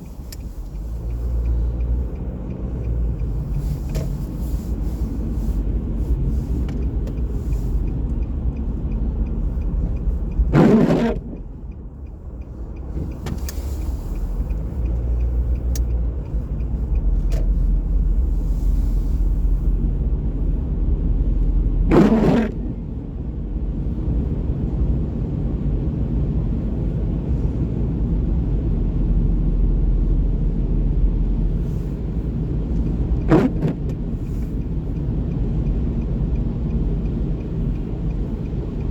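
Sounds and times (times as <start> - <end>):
rumble of road vehicles: 0.0 - 38.9.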